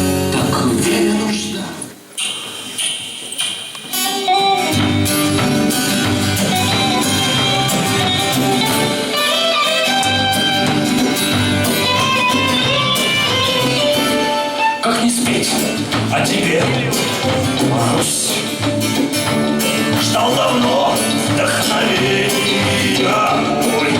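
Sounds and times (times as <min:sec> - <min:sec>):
instrumental band music: 0:02.0 - 0:23.9.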